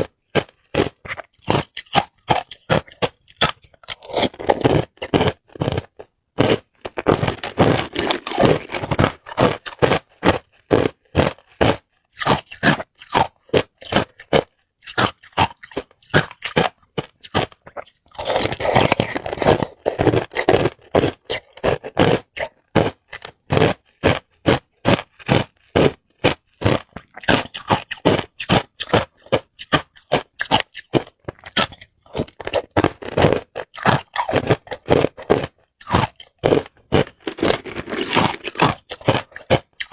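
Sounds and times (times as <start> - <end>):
ice cubes crunching: 0.3 - 39.9.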